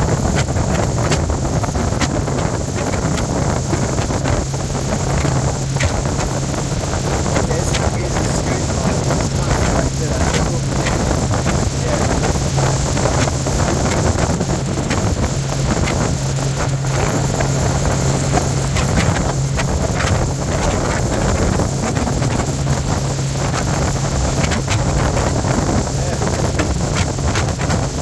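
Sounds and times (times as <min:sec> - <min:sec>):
motorboat engine hum: 0:00.0 - 0:28.0
wind buffeting microphone: 0:00.0 - 0:28.0.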